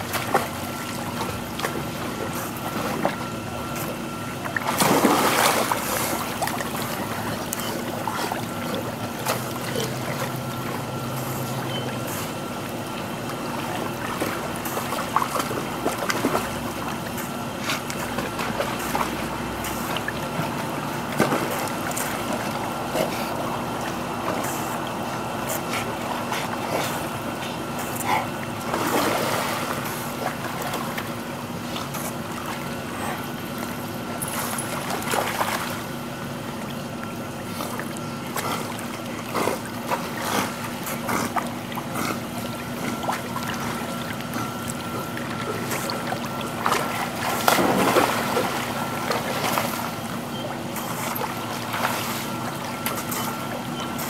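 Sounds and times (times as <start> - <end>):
dogs splashing in pool water: 0.0 - 54.0
steady background hum: 0.0 - 54.0.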